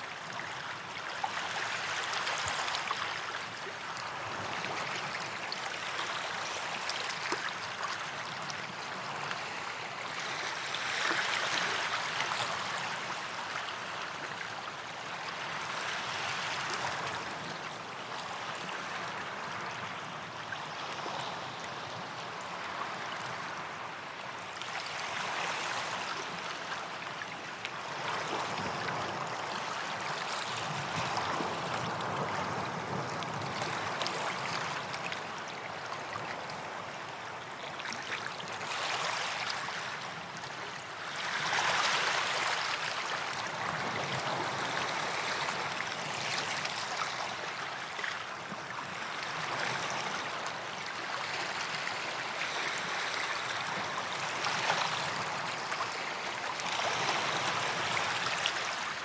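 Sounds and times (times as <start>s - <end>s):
small waves lapping on beach: 0.0s - 59.0s.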